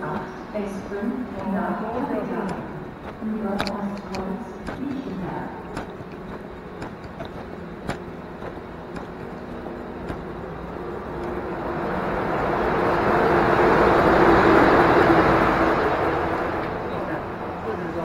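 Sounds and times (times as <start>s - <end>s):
steady low hum: 0.0s - 18.0s
train rumbling on tracks: 0.0s - 18.0s.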